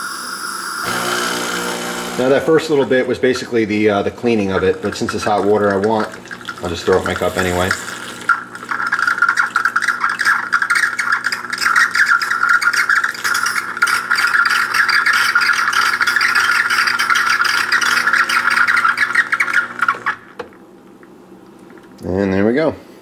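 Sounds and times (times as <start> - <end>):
espresso machine pump hum: 0.0 - 20.5.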